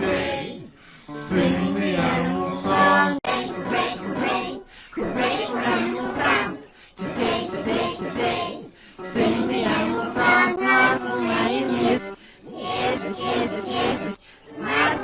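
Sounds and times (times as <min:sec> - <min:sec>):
children's song singing: 0:00.0 - 0:15.0
musical backing: 0:01.2 - 0:15.0.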